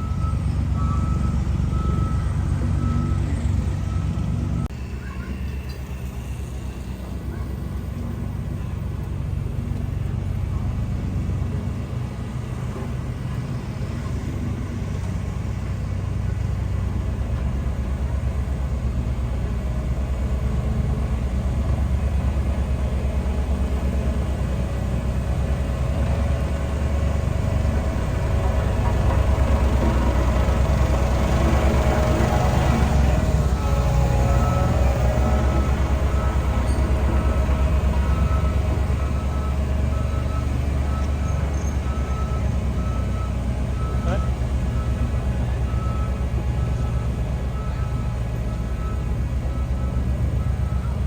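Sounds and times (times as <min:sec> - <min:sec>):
bulldozer diesel engine running: 0:00.0 - 0:51.0.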